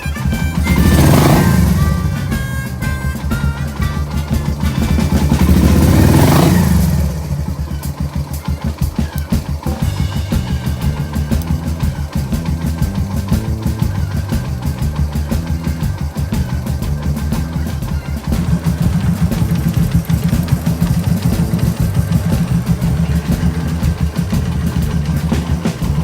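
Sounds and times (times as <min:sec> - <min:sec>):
background music: 0:00.0 - 0:26.0
motorcycle engine idling: 0:00.0 - 0:26.0.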